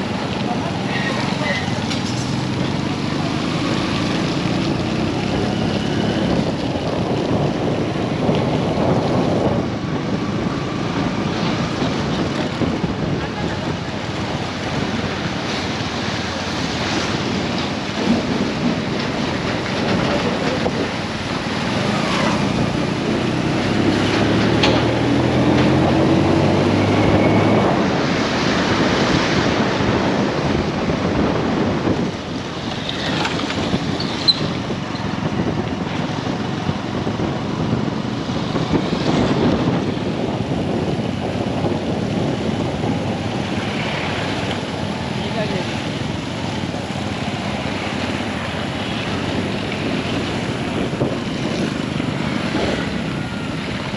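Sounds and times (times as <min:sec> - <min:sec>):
loud vehicle engine: 0:00.0 - 0:53.9
vehicles passing: 0:00.0 - 0:53.9
wind buffeting microphone: 0:00.0 - 0:53.9.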